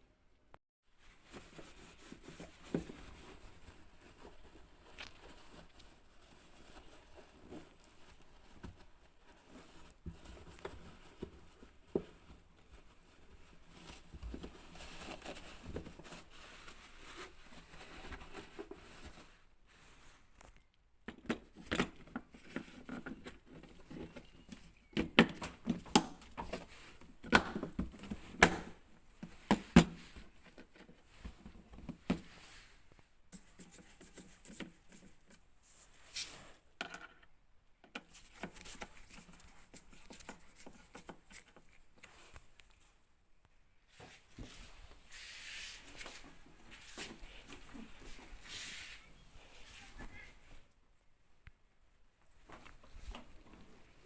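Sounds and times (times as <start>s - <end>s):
rustling: 0.9s - 20.7s, 21.4s - 36.8s, 38.0s - 51.1s.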